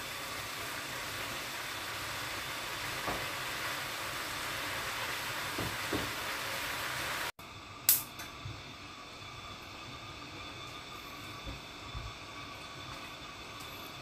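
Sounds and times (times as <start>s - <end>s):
sauce bubbling and sizzling: 0.0s - 14.0s.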